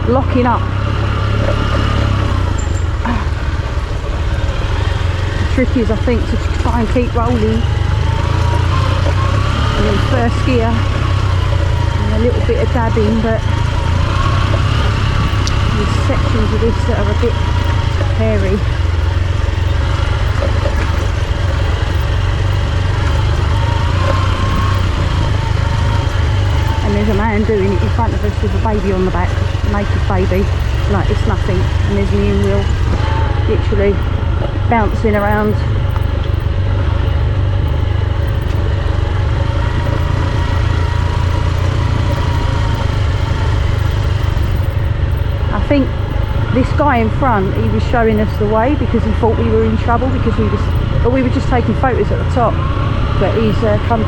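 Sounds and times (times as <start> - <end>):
motorcycle engine running at low revs: 0.0 - 54.0.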